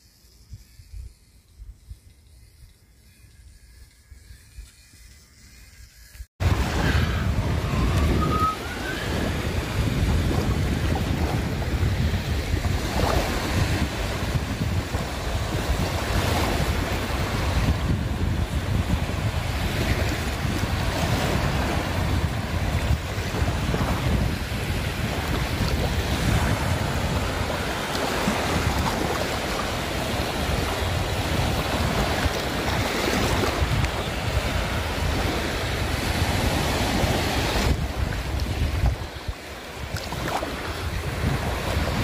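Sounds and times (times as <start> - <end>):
wind buffeting microphone: 0.0 - 42.0
sea waves washing in: 6.4 - 42.0.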